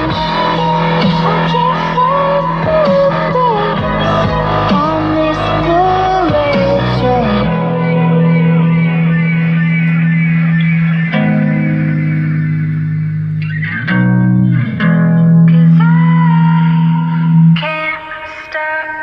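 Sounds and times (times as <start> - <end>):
low bass note: 0.0 - 15.8
guitar chords: 0.0 - 19.0.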